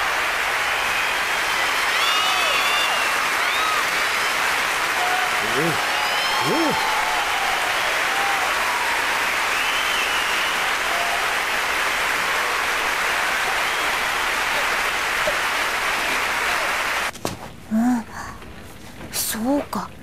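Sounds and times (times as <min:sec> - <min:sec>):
audience applauding: 0:00.0 - 0:17.1.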